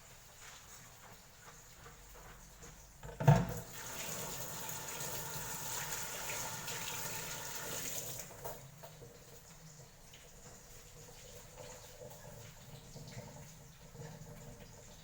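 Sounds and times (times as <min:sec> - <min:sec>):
tap water running into sink: 0:00.4 - 0:15.0.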